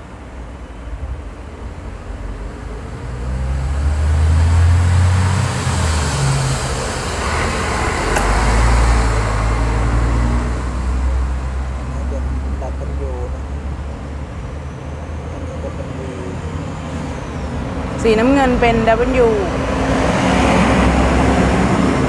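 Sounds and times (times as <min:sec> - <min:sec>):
vehicle engine rumble passing: 0:00.0 - 0:22.0.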